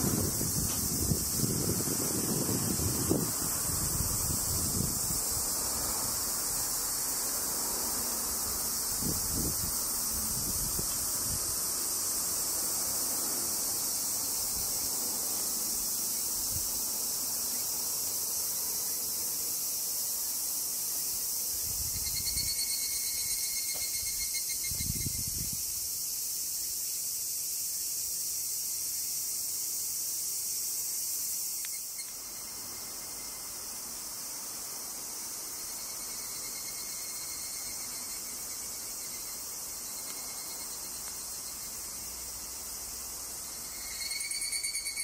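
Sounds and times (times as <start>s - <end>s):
cicadas chorus: 0.0s - 45.0s
short pulsing insect call: 0.0s - 45.0s.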